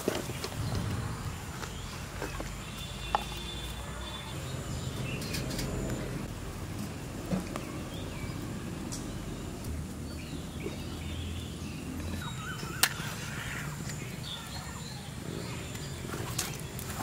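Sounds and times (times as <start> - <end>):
birds chirping and calling: 0.0 - 6.3, 7.5 - 17.0.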